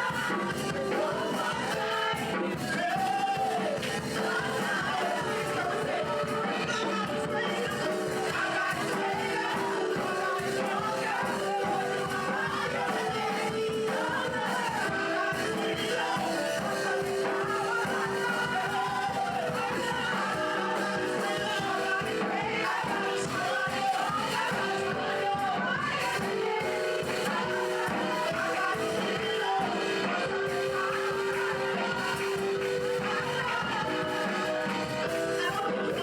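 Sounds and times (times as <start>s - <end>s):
congregation singing: 0.0s - 36.0s.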